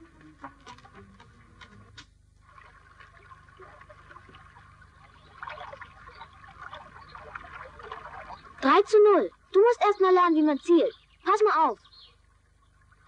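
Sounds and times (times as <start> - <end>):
faint stream water: 0.0 - 13.0
film soundtrack hum and hiss: 0.0 - 13.0.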